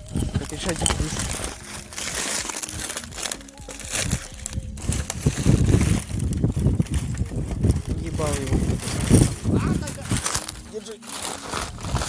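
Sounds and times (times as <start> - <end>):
footsteps crunching on debris: 0.0 - 12.0.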